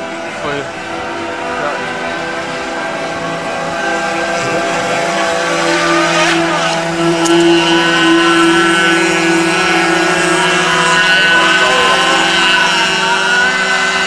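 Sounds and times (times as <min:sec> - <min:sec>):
model boat engines whining: 0:00.0 - 0:14.0.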